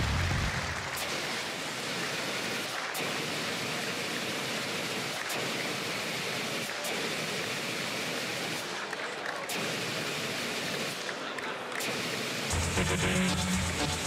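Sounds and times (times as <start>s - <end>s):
spark fountains and gas jets hissing: 0.0s - 14.0s.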